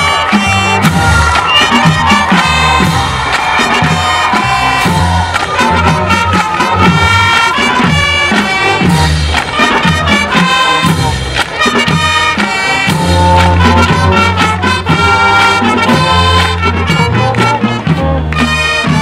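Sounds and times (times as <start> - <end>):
flutes saxophones and brass: 0.0 - 19.0
snare and tenor drums: 0.0 - 19.0.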